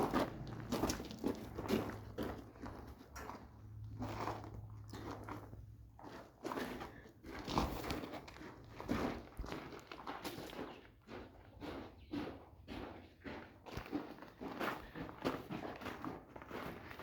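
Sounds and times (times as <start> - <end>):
crunchy footsteps: 0.0 - 17.0.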